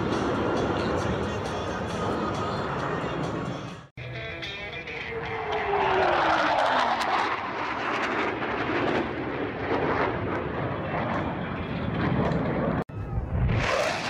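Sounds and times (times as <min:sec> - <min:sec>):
aircraft engine in flight: 0:00.0 - 0:03.9, 0:05.1 - 0:14.0.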